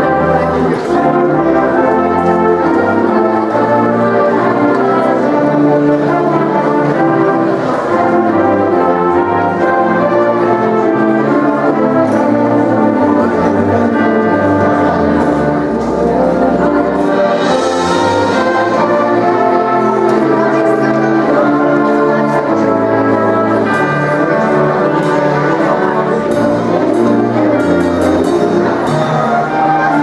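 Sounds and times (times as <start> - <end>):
symphonic band playing chords: 0.0 - 30.0.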